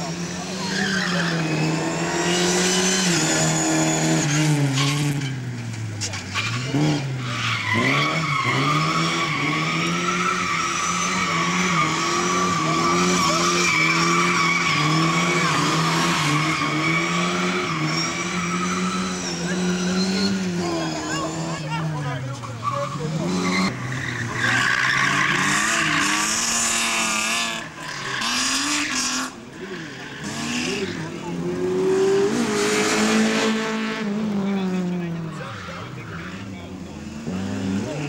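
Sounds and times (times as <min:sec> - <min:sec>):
car engine revving hard: 0:00.0 - 0:05.3, 0:06.6 - 0:22.0, 0:23.0 - 0:29.4, 0:30.2 - 0:35.4.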